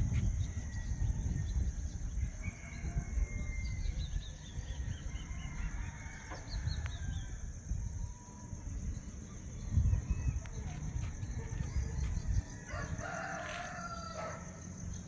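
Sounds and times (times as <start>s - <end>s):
small bird singing: 0.0s - 15.0s.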